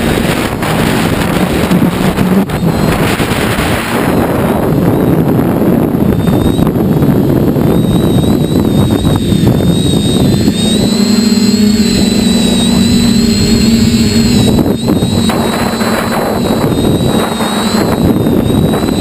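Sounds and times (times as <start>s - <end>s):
high wavering motor whine: 0.0s - 19.0s
steady propeller hum: 0.0s - 19.0s
wind rushing over microphone: 0.0s - 19.0s.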